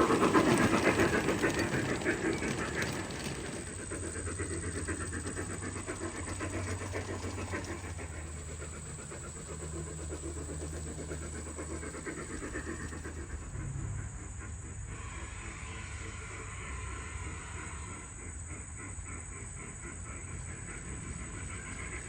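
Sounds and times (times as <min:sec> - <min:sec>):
model train running on track: 0:00.0 - 0:22.0.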